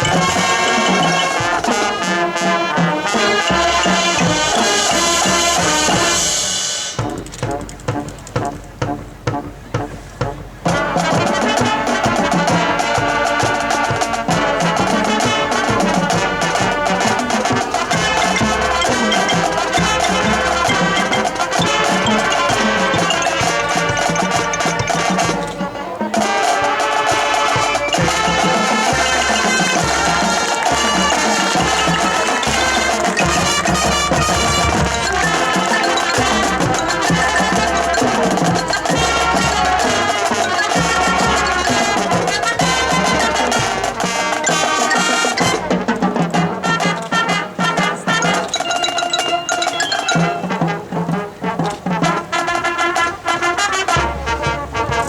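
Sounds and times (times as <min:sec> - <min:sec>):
marching band playing: 0:00.0 - 0:55.0
percussion hits: 0:00.0 - 0:55.0.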